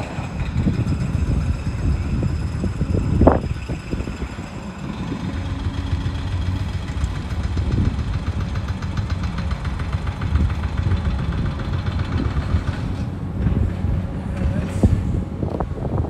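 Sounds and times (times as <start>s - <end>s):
engine ticking clatter: 0.0s - 16.0s
wind rumble on microphone: 0.0s - 16.0s.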